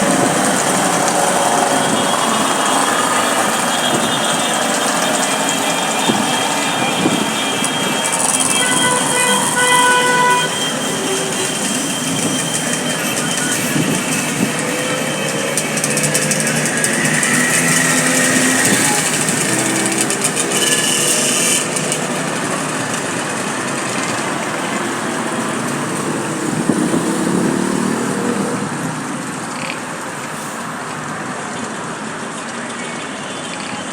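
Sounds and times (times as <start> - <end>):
car horns sounding: 0.0 - 28.5
street traffic din: 0.0 - 33.9.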